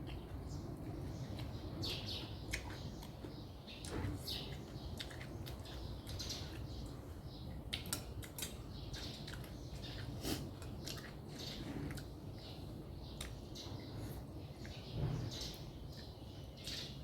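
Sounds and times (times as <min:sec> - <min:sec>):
wet chewing and lip smacks: 0:00.0 - 0:14.9.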